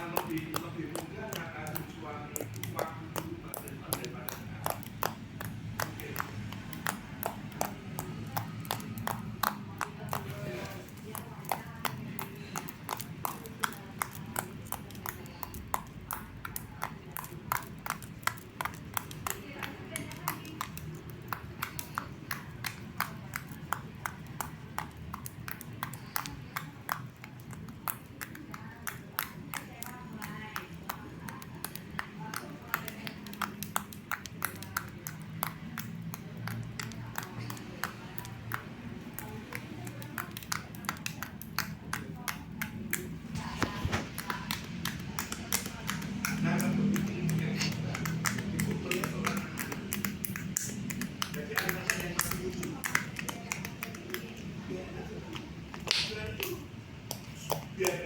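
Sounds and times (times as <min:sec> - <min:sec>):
faint background music: 0:00.0 - 0:58.0
slime clicking and popping: 0:00.0 - 0:58.0.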